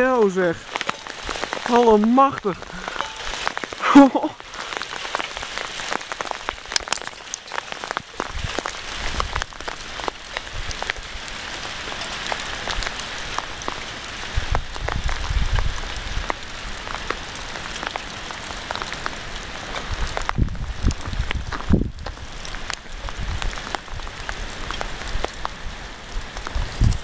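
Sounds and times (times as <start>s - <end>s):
hail and rain pelting: 0.0s - 27.0s.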